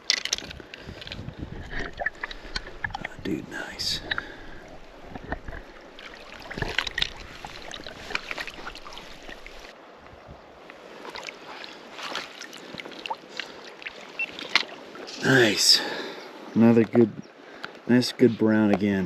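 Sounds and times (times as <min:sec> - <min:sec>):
water splashing and sloshing: 0:00.0 - 0:17.8.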